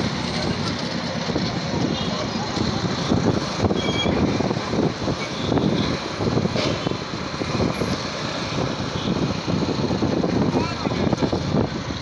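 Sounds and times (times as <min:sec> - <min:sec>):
rumble of nearby vehicles: 0:00.0 - 0:12.0.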